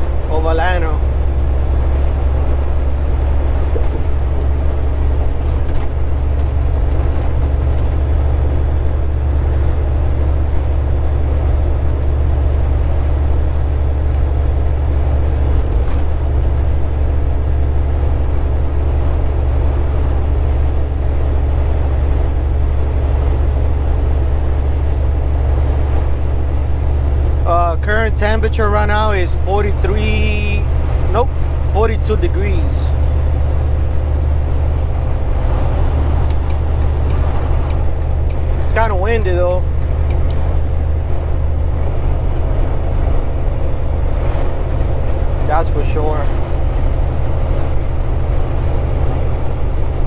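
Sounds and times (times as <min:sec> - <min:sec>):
road noise: 0:00.0 - 0:50.0
truck engine drone: 0:00.0 - 0:50.0.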